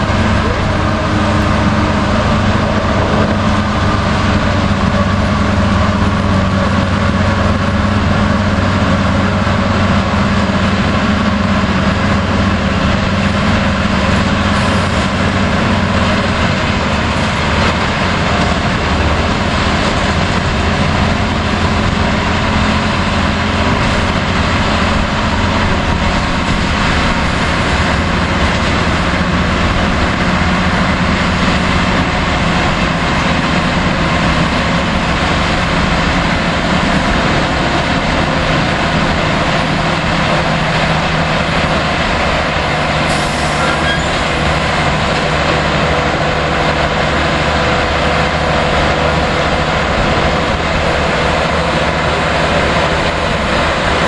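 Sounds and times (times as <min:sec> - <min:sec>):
rack railway train running: 0:00.0 - 0:54.0.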